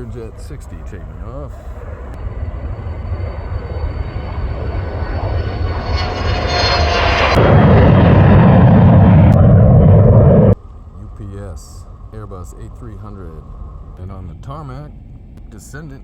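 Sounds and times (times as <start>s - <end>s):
jet taking off: 0.0s - 16.0s.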